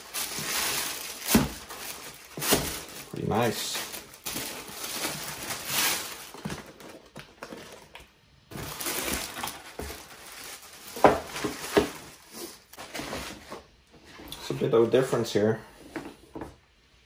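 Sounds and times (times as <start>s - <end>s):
paper and plastic bag rustling: 0.0s - 13.8s.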